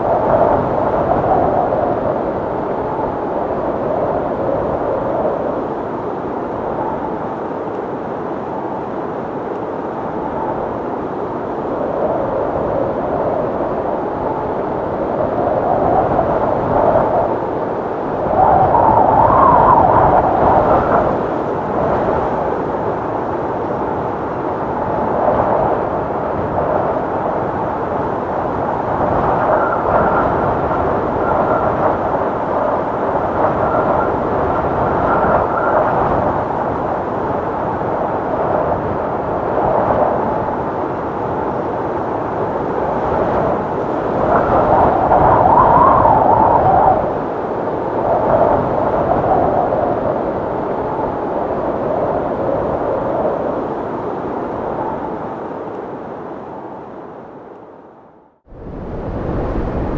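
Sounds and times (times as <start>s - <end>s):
wind gusts: 0.0s - 59.9s.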